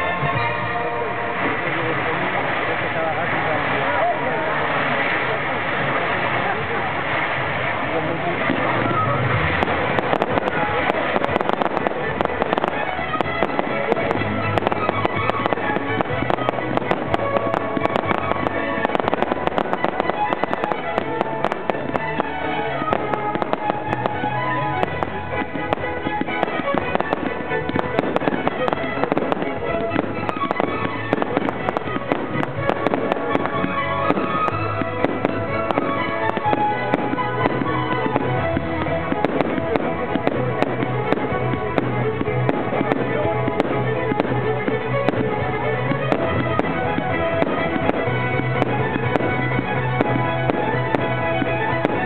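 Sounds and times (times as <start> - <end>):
fireworks bursting and crackling: 0.0 - 52.0
loud music: 0.0 - 52.0.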